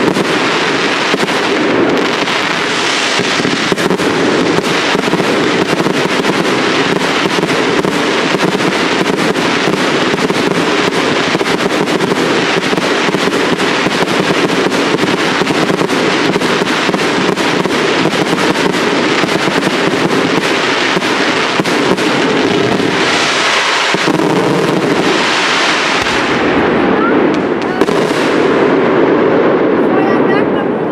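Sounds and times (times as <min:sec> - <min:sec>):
fireworks crackling: 0:00.0 - 0:30.9.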